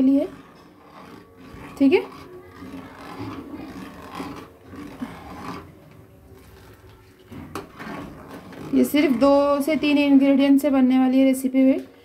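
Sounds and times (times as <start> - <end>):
ladle scraping metal pan: 0.0 - 10.9.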